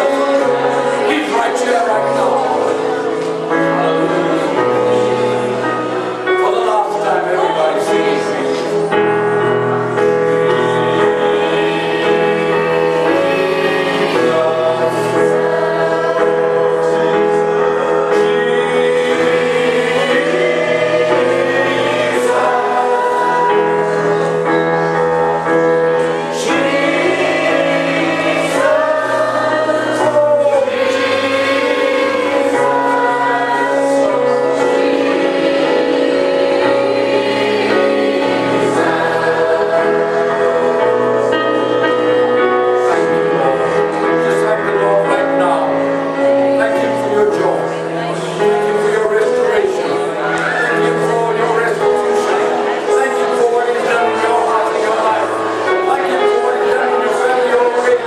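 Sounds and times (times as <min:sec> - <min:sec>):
gospel choir singing: 0:00.0 - 0:58.0.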